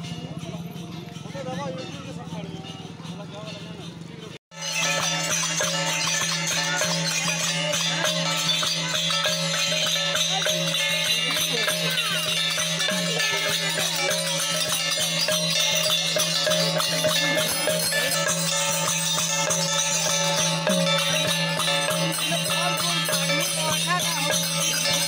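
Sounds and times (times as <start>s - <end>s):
jingling rattling percussion: 0.0s - 25.0s.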